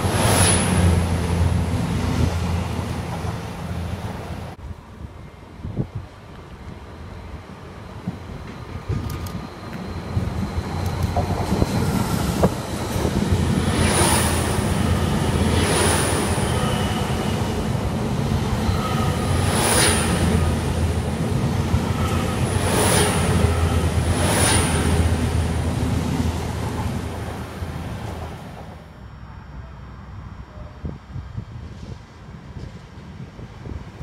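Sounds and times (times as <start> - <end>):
express train passing: 0.0 - 34.0.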